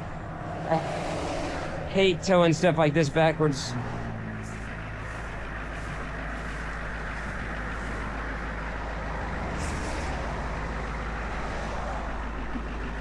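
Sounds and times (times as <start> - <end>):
engine humming: 0.0 - 13.0
highway traffic passing: 0.0 - 13.0.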